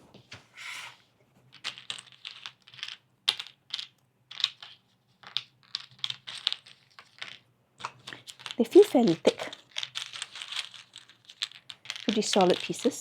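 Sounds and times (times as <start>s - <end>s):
puzzle pieces clicking on table: 1.5s - 13.0s.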